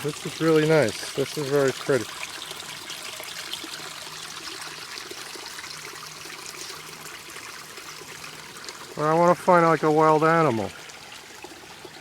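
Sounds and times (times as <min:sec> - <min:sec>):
brook water trickling over stones: 0:00.0 - 0:12.0.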